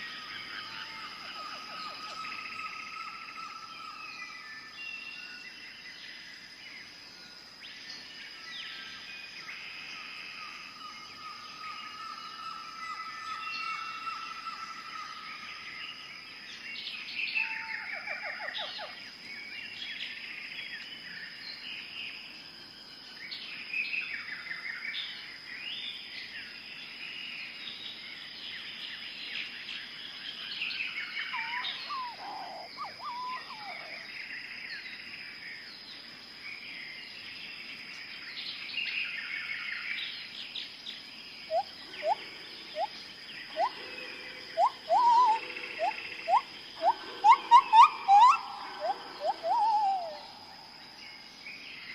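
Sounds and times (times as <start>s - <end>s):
birds chirping and trilling: 0.0s - 21.9s, 27.8s - 51.9s.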